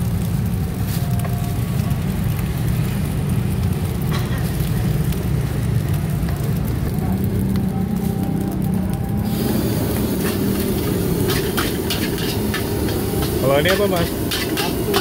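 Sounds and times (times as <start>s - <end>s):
gas burner rushing: 0.0s - 15.0s
wok frying sizzle: 0.0s - 15.0s.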